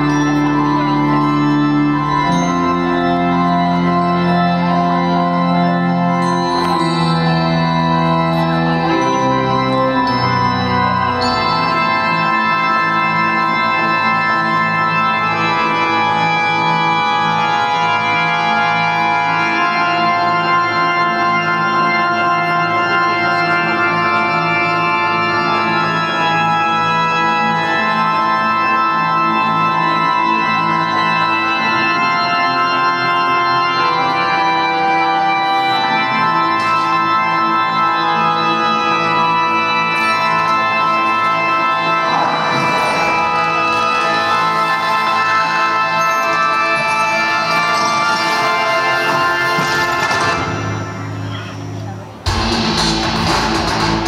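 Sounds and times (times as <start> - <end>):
organ music held chords: 0.0 - 54.0.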